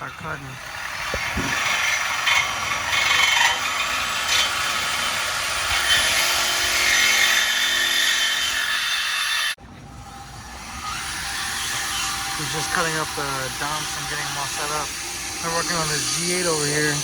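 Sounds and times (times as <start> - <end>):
power tool cutting steel pipe: 0.0 - 17.0.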